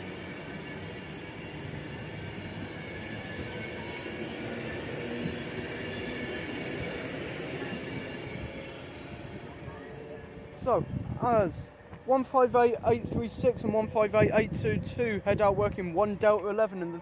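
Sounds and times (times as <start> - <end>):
train engine and rail noise: 0.0 - 17.0.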